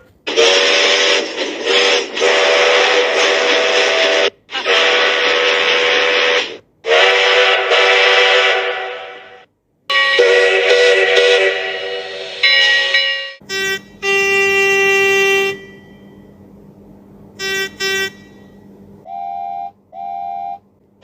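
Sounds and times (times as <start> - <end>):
steam locomotive whistle: 0.0 - 16.2, 17.4 - 20.7.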